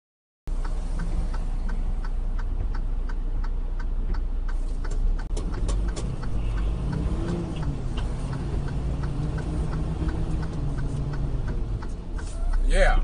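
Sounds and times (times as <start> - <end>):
truck engine and road rumble: 0.5 - 13.0
regular clicking: 0.6 - 13.0.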